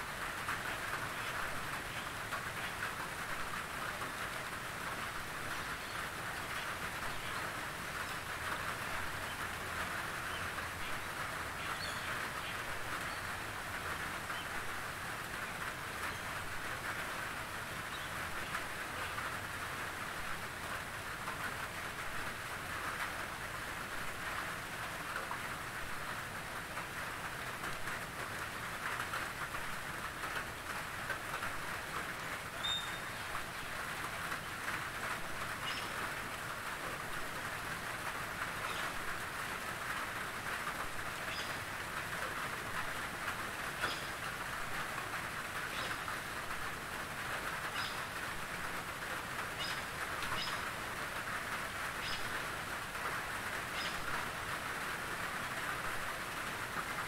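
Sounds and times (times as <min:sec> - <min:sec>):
rain falling on foliage: 0:00.0 - 0:57.0.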